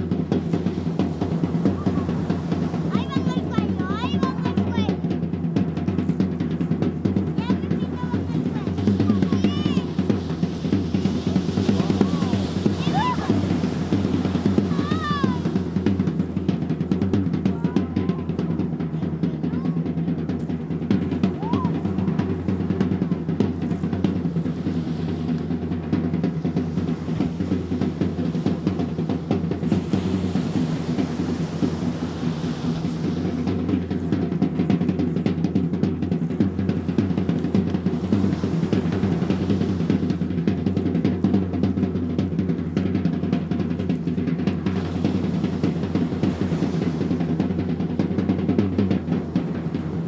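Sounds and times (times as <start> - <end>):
fast drumming: 0.0 - 50.0.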